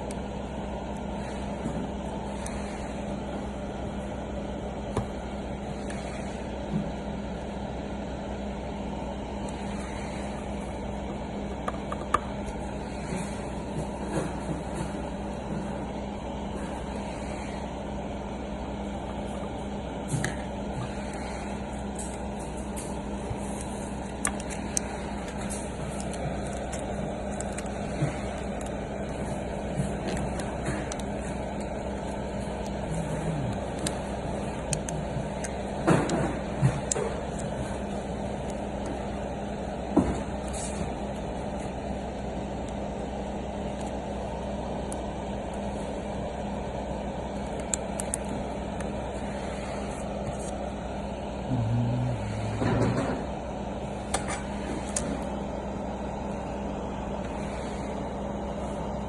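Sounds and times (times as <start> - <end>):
constant hum: 0.0 - 59.0.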